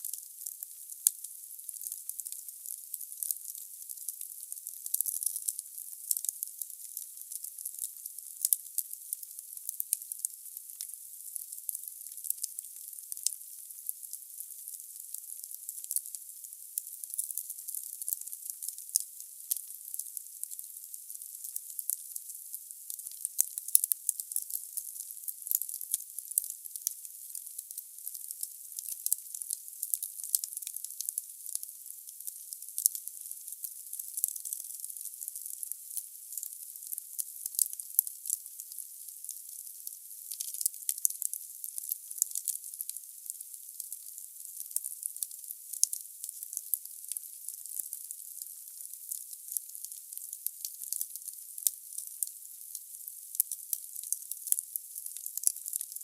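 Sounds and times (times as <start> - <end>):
wood fire crackling and hissing: 0.0 - 43.4, 44.0 - 53.0.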